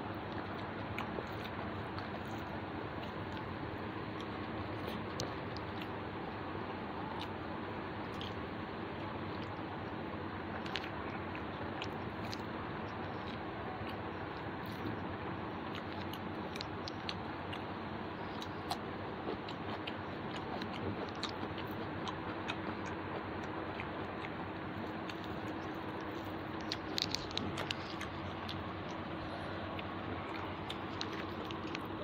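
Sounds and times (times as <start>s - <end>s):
person chewing food: 0.2s - 6.0s, 8.1s - 8.4s, 9.3s - 15.0s, 15.6s - 32.0s.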